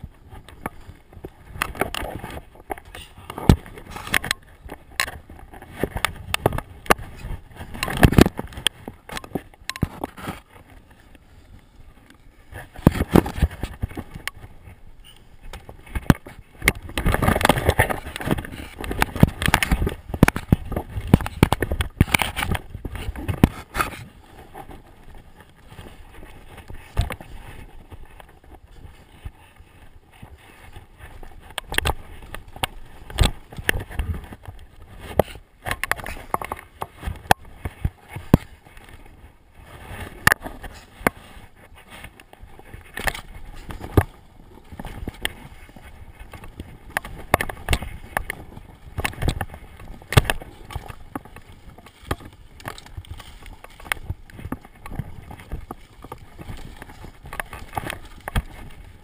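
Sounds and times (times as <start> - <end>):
stones and brush scraping: 0.0 - 59.0.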